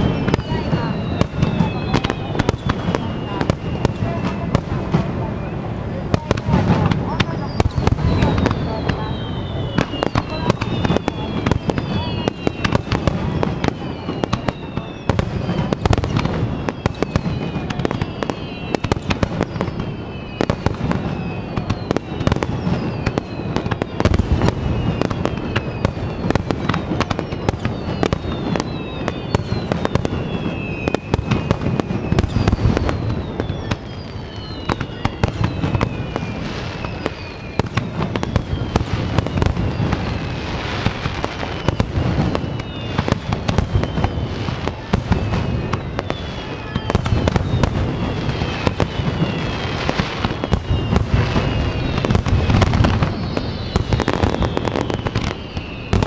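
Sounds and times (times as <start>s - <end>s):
deep fireworks booms: 0.0s - 56.0s
fireworks bangs and crackles: 0.0s - 56.0s
high falling whistles: 0.0s - 56.0s.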